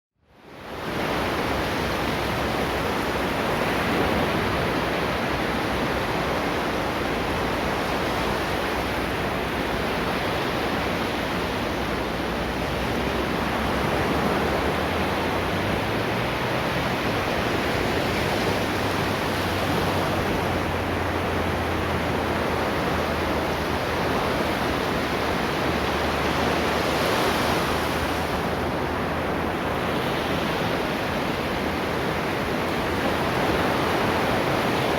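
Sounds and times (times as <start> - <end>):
ocean waves on shore: 0.3 - 34.9.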